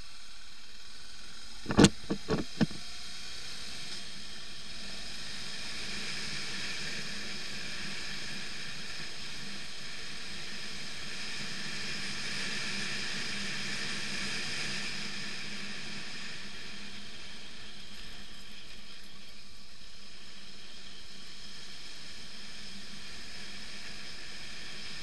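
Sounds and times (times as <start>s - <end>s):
motorcycle engine hum: 0.0s - 25.0s
wind and tyre noise: 0.0s - 25.0s.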